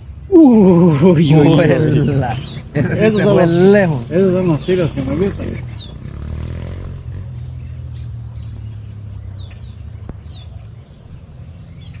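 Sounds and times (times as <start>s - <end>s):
high bird chirps: 1.0s - 12.0s.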